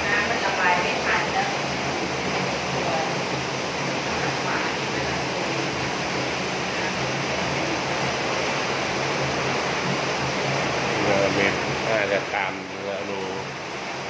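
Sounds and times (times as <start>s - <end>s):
heavy rain on a roof: 0.0s - 14.0s.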